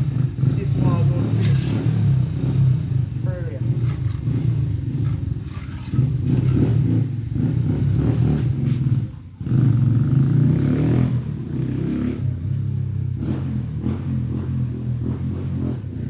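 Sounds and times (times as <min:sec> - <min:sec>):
motorbike engine passing by: 0:00.0 - 0:16.0.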